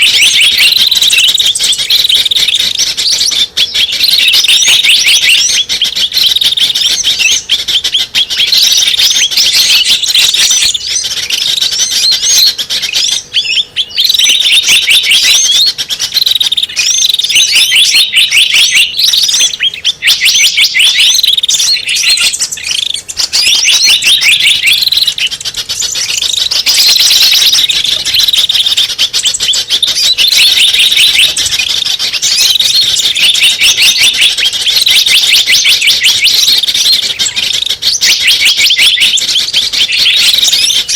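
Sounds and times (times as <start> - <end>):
high-pitched bird chirps and trills: 0.0 - 40.9.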